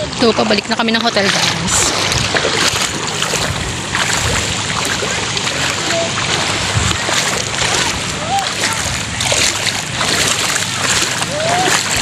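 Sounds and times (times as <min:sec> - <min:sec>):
seawater splashing and sloshing: 0:00.0 - 0:12.0.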